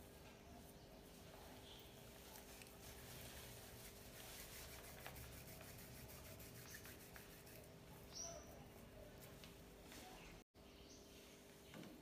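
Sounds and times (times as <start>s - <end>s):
hands rolling dough: 0.0s - 10.2s.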